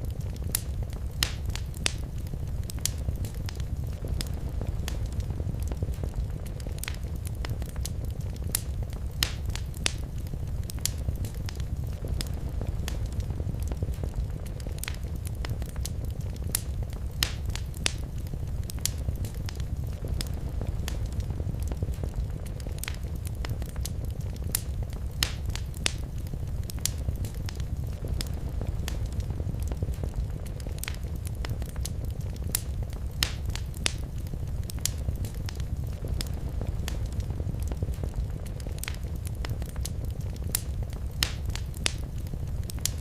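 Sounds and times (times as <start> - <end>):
fire crackling and popping: 0.0 - 43.0
fire rumbling: 0.0 - 43.0.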